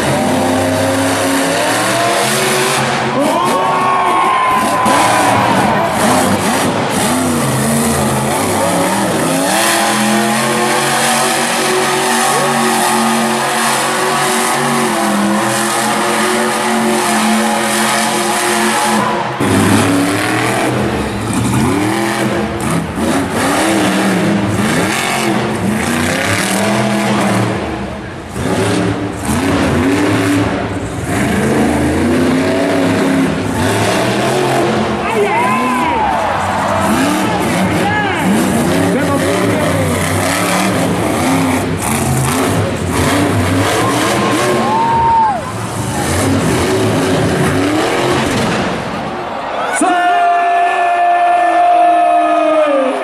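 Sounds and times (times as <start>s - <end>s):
monster truck engine revving: 0.0s - 53.0s.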